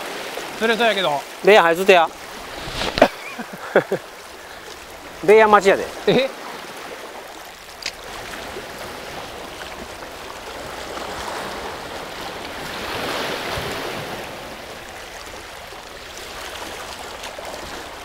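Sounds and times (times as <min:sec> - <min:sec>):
waves washing against rocks: 0:00.0 - 0:18.0.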